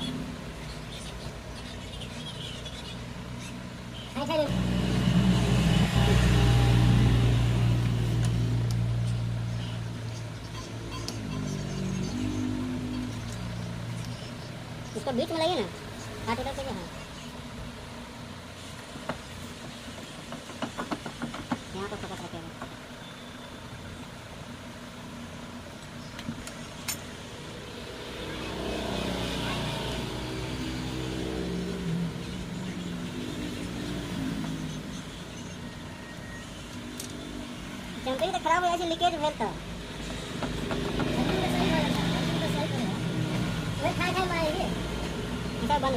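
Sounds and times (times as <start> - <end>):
vehicle engine humming: 0.0 - 45.9.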